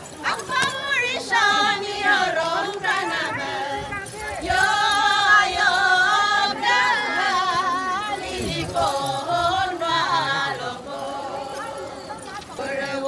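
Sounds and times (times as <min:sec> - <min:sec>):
voices singing a chant: 0:00.0 - 0:13.0.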